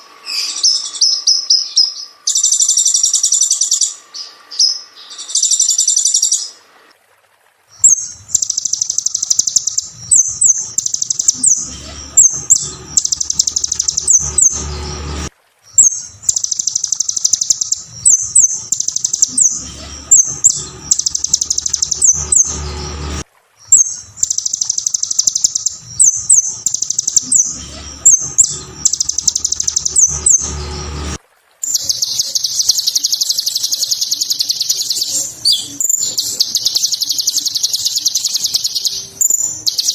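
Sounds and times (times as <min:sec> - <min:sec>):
bird singing chattering song: 0:00.0 - 0:06.6, 0:07.8 - 0:39.9.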